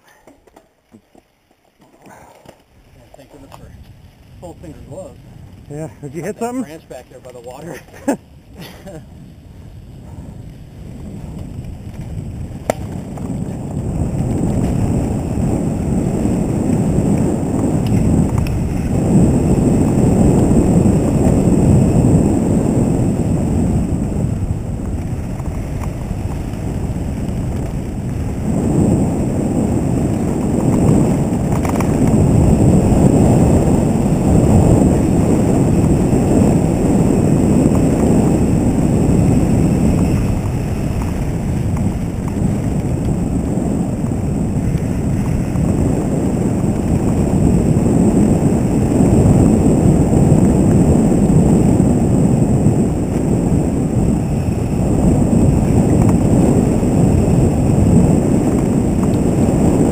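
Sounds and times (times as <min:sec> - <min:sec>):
bike rattling over dirt: 0:00.0 - 0:59.9
wind buffeting microphone: 0:01.9 - 0:59.9.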